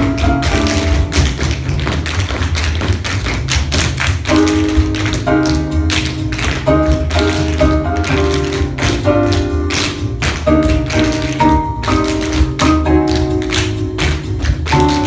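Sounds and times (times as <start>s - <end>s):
tap shoes on wooden floor: 0.0s - 15.0s.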